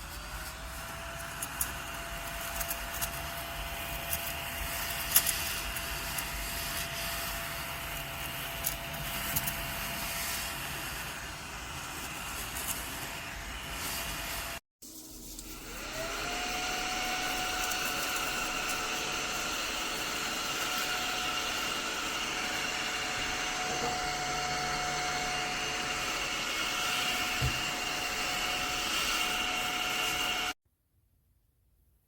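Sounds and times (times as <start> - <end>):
mini vacuum cleaner motor whine: 0.0 - 30.6.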